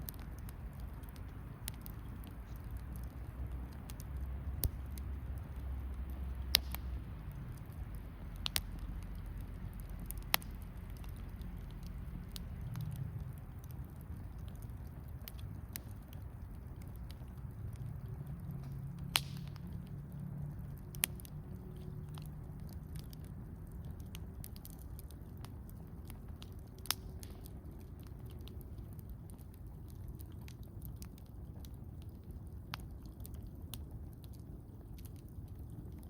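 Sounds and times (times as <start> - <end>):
campfire crackling: 0.0 - 36.0
fire rumbling: 0.0 - 36.0
sharp fire pops: 0.0 - 36.0.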